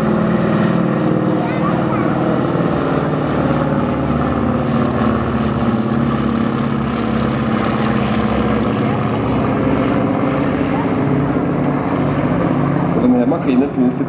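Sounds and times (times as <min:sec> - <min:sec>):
propeller plane droning overhead: 0:00.0 - 0:14.0.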